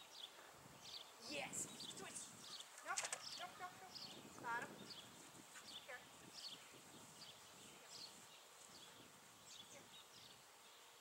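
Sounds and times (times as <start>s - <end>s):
faint outdoor ambience: 0.0s - 11.0s
small bird chirping: 0.0s - 11.0s.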